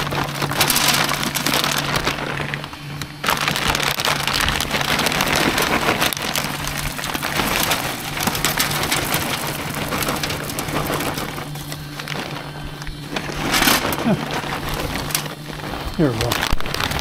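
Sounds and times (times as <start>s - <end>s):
pellets pouring into metal hopper: 0.0s - 17.0s.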